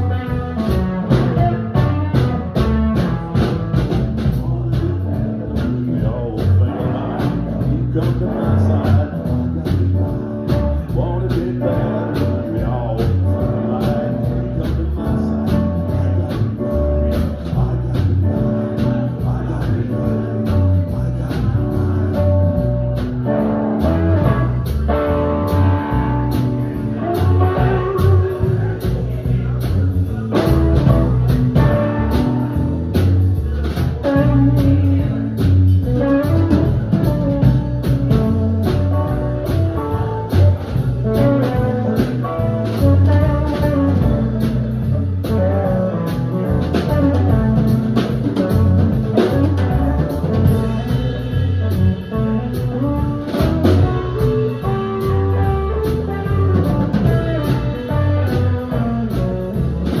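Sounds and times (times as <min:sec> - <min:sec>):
bass guitar: 0:00.0 - 1:00.0
drum kit: 0:00.0 - 1:00.0.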